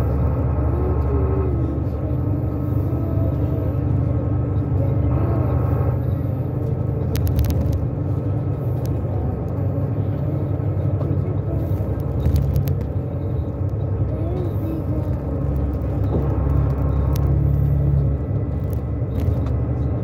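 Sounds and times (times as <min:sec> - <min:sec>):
engine and road noise rumble: 0:00.0 - 0:20.0.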